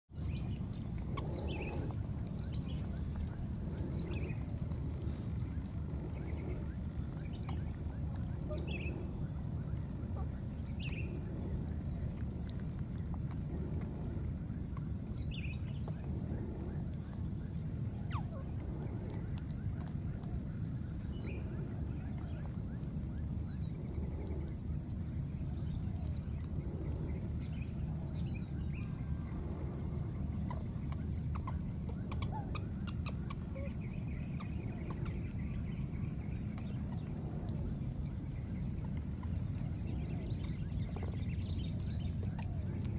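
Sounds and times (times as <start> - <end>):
steady low rumble: 0.1 - 42.9.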